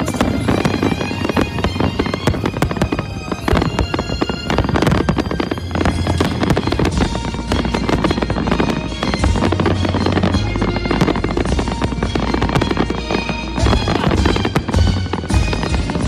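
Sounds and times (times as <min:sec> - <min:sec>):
fireworks bangs and crackling: 0:00.0 - 0:16.0
music playing: 0:00.0 - 0:16.0.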